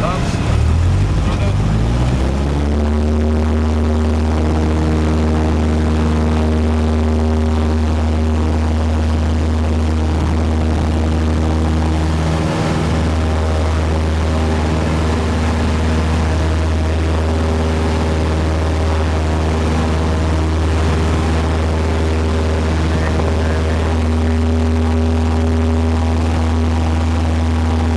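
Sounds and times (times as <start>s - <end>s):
propeller plane engine droning: 0.0s - 27.9s.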